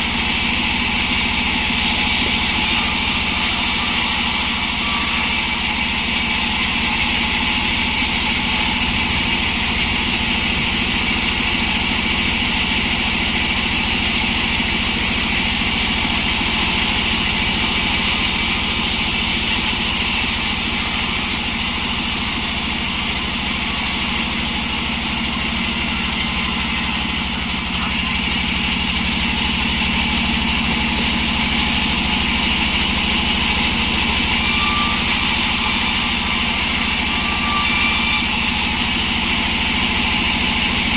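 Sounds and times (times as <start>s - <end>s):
sawmill engine drone: 0.0s - 40.9s.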